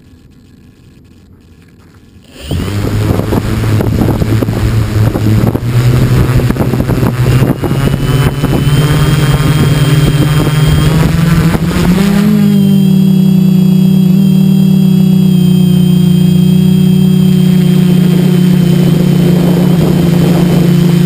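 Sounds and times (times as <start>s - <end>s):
quadcopter motors spinning up: 0.0s - 21.0s.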